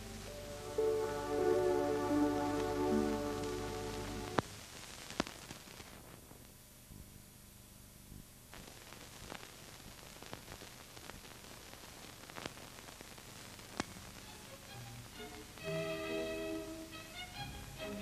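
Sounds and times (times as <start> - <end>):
film soundtrack hiss: 0.0 - 18.0.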